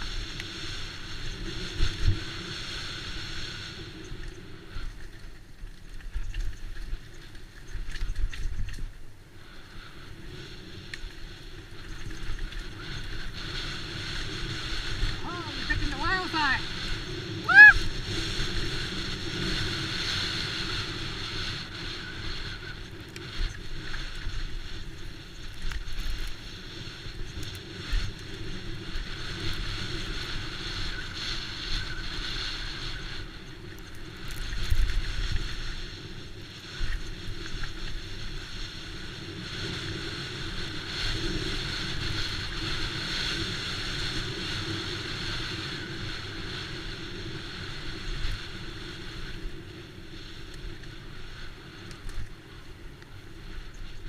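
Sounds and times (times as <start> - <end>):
bike tyre noise: 0.0 - 54.0
wind on microphone: 0.0 - 54.0.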